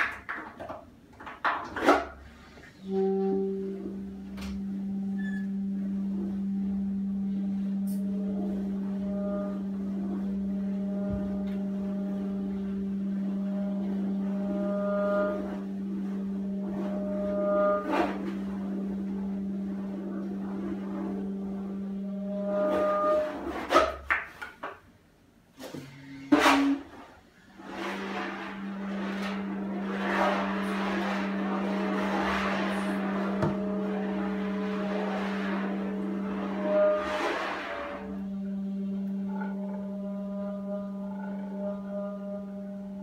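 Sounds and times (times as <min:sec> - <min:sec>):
saxophone low drone: 0:01.8 - 0:24.0, 0:25.6 - 0:43.0.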